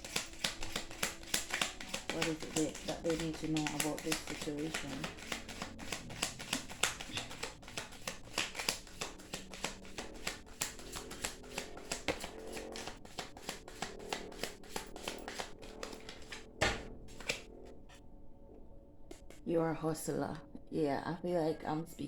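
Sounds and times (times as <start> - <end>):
cards being shuffled: 0.0 - 17.8.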